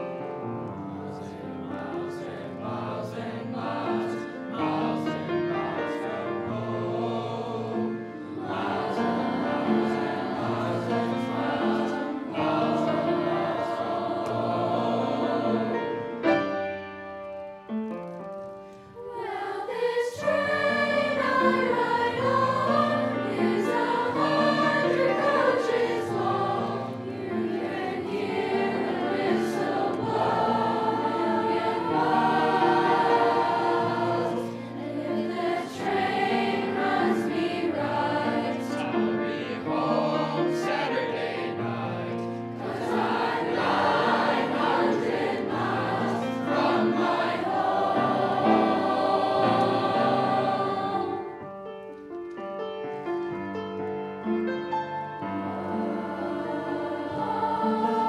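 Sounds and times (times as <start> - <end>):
grand piano: 0.0 - 58.0
mixed choir singing: 0.8 - 16.5, 19.0 - 51.6, 55.2 - 58.0.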